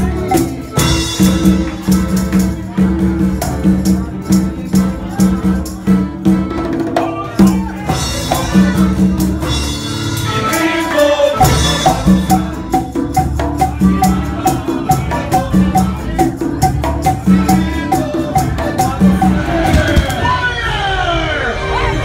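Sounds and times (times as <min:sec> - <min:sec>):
upbeat latin band music: 0:00.0 - 0:22.0.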